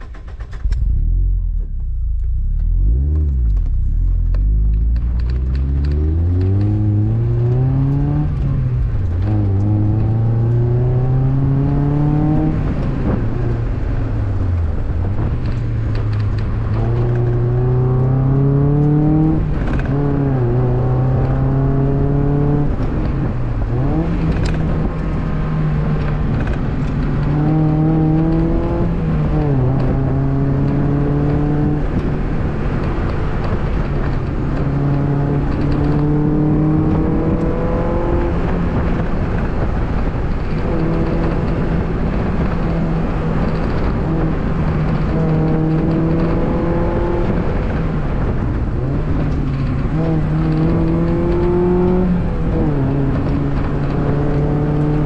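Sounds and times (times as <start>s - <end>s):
car engine accelerating: 0.0s - 55.0s
tyre and road noise: 0.0s - 55.0s.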